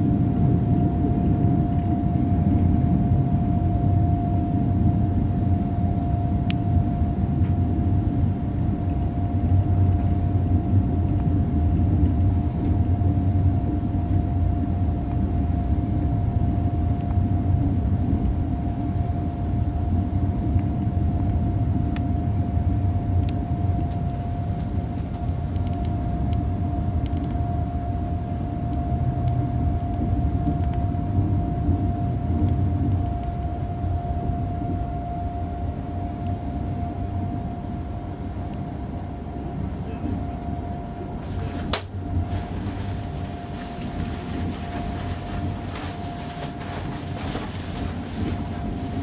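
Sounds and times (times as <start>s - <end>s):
thin whine: 0.0s - 11.6s, 18.4s - 49.0s
train interior rumble: 0.0s - 49.0s.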